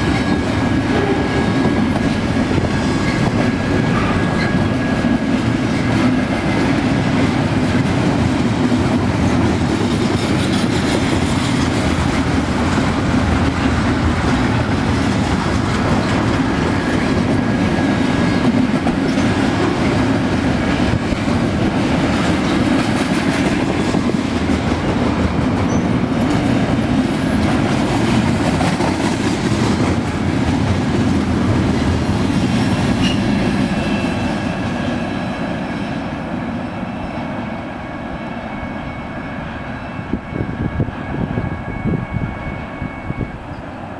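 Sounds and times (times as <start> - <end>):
train wheels running on rails: 0.0 - 43.9.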